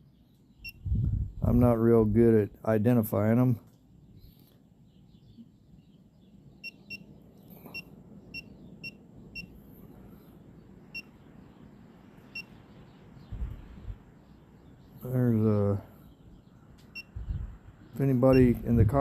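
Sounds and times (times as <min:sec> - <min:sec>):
faint low wind: 0:00.0 - 0:19.0.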